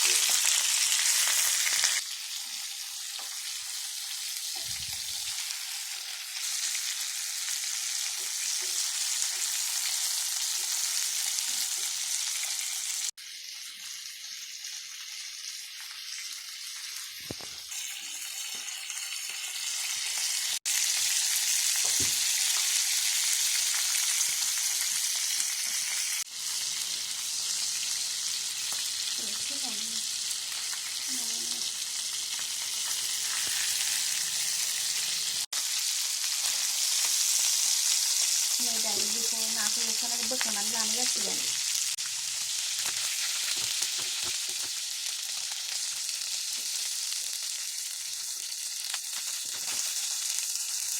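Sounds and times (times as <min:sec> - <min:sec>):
fish frying in hot oil: 0:00.0 - 0:50.9.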